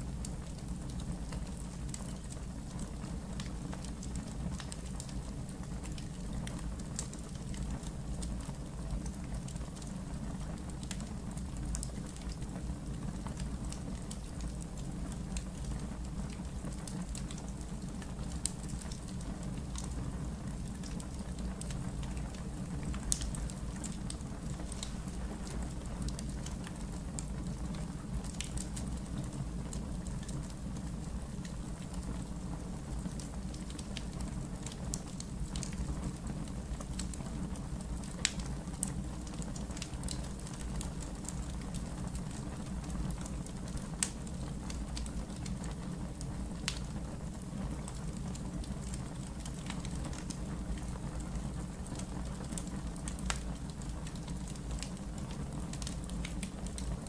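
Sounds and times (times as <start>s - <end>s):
low rumble of flames: 0.0s - 57.0s
logs crackling and popping: 0.2s - 57.0s.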